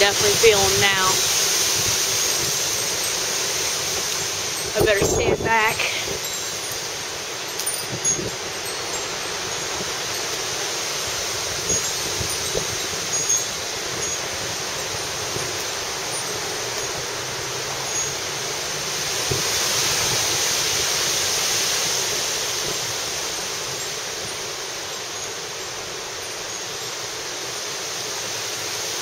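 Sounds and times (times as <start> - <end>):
wind gusting through trees: 0.0 - 29.0.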